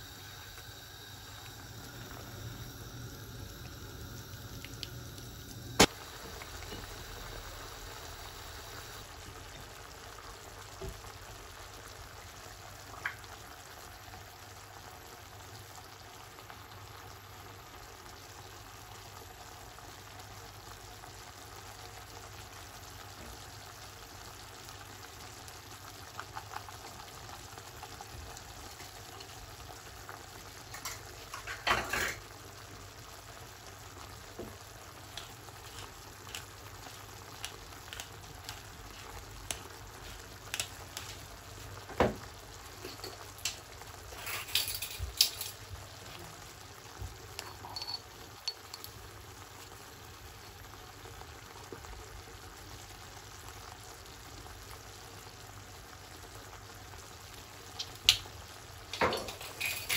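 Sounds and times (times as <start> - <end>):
sauce bubbling in a saucepan: 0.0 - 59.9.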